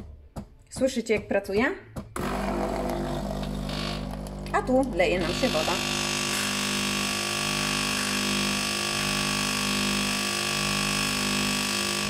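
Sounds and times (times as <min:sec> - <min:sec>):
espresso machine pump buzzing: 0:02.2 - 0:12.0.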